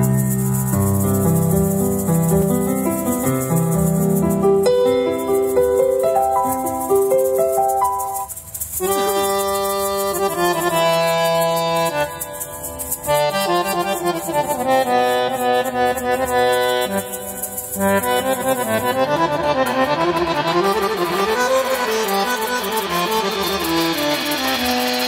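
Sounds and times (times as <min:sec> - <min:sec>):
keyboard melody over chords: 0:00.0 - 0:25.0
light ticking percussion: 0:00.0 - 0:25.0.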